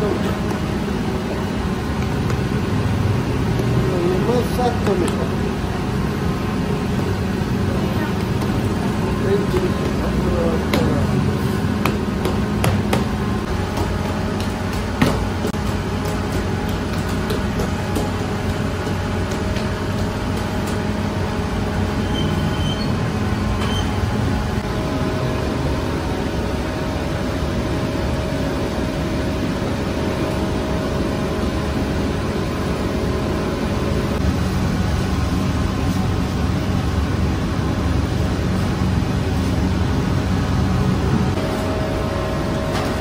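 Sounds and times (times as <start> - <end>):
bakery machinery droning: 0.0 - 43.0.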